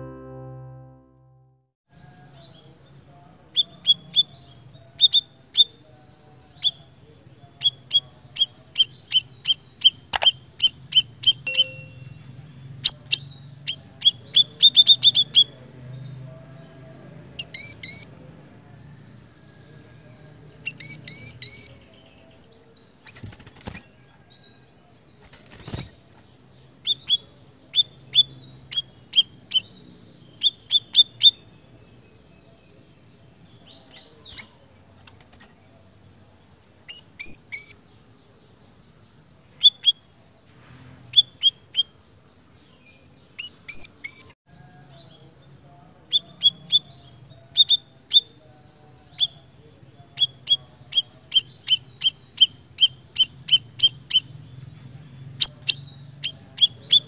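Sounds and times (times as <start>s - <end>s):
bird chirping: 2.0s - 40.4s, 41.1s - 57.0s.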